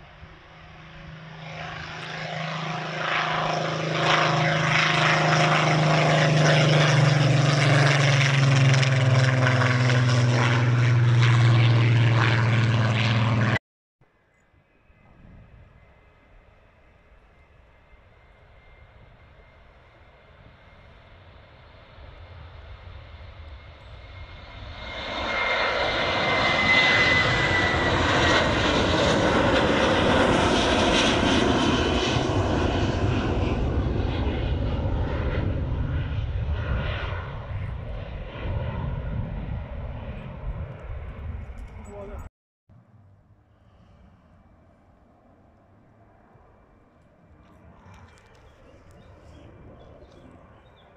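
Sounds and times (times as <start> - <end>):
jet engine roar: 0.0 - 13.6, 14.6 - 42.3, 43.0 - 50.9
high jet engine whine: 0.0 - 50.9.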